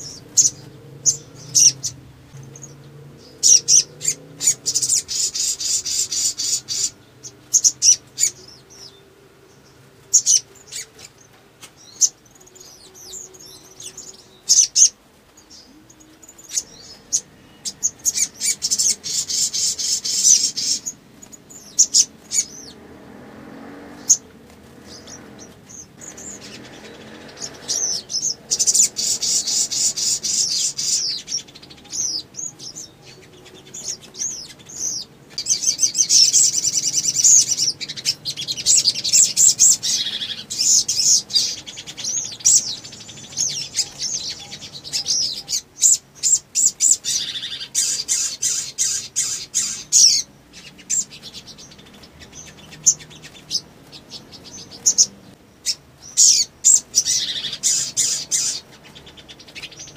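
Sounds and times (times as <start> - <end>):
bird chirping trills: 0.0 - 59.9.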